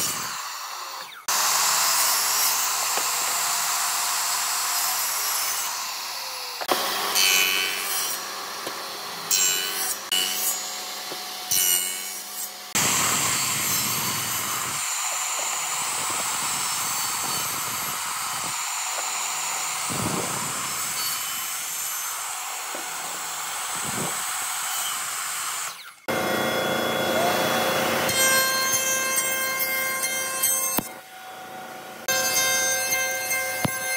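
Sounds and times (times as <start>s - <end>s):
electric miter saw cutting timber: 0.0s - 33.9s.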